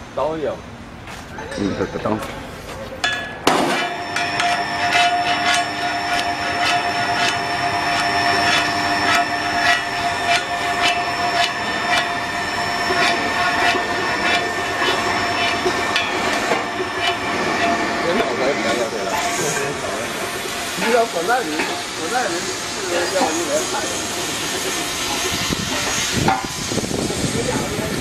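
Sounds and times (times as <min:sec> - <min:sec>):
electric winch motor whine: 0:03.8 - 0:28.0.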